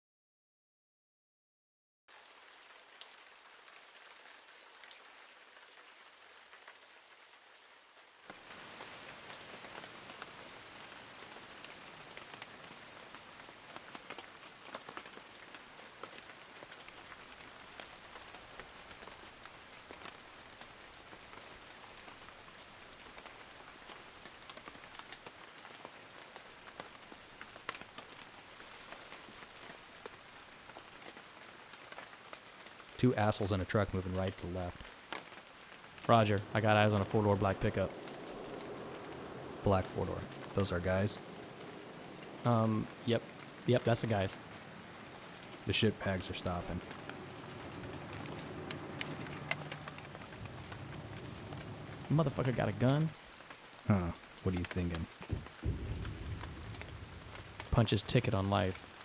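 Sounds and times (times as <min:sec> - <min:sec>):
steady rain falling: 0:02.1 - 0:59.0
individual raindrop hits: 0:08.3 - 0:59.0.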